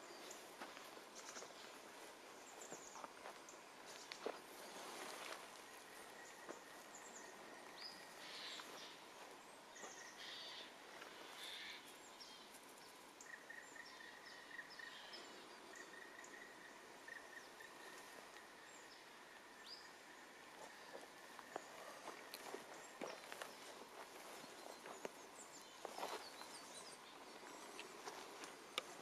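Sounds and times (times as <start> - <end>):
small birds chirping: 0.0 - 29.0
soft hiss of woodland air: 0.0 - 29.0.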